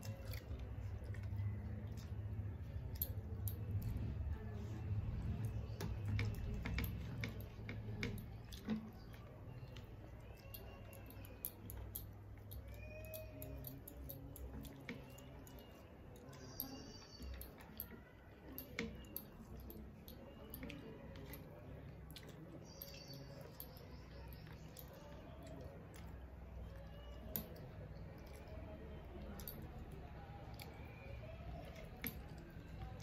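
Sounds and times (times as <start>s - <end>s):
people chewing and smacking: 0.0s - 33.0s.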